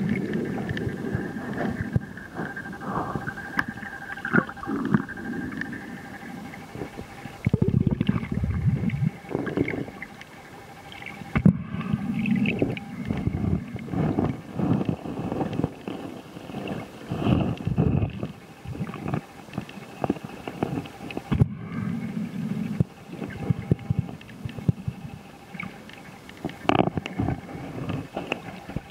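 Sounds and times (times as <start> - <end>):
faint crackle: 0.0 - 28.9
underwater rumbling and gurgling: 0.0 - 28.9.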